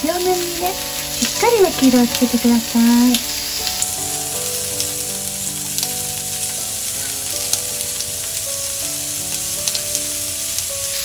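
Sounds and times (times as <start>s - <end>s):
chicken sizzling in frying pan: 0.0s - 11.0s
pan ticking: 0.0s - 11.0s.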